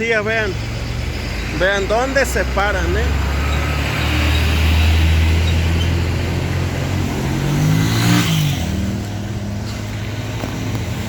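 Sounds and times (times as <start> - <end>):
steady traffic drone: 0.0 - 11.0
passing vehicle engine revving: 0.3 - 11.0.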